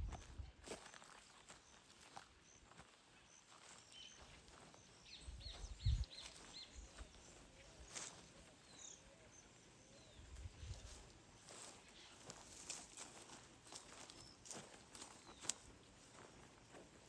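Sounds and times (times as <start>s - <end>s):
footsteps on a path: 0.0s - 9.0s, 10.2s - 17.0s
small birds chirping: 0.0s - 17.0s.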